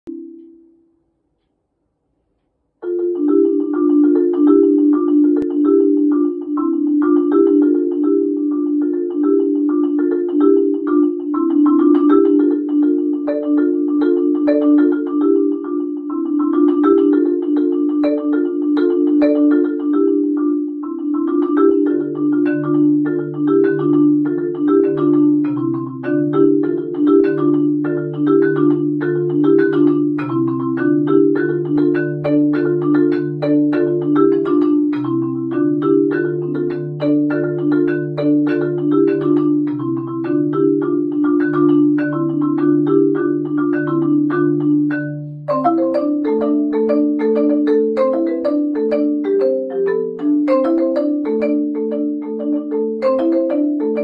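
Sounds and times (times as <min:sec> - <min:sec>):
marimba played with mallets: 0:00.1 - 0:01.0, 0:02.8 - 0:54.0.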